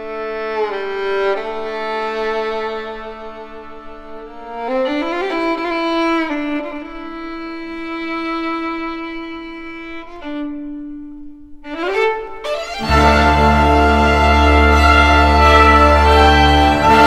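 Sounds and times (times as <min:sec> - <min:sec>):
solo violin sliding notes: 0:00.0 - 0:17.0.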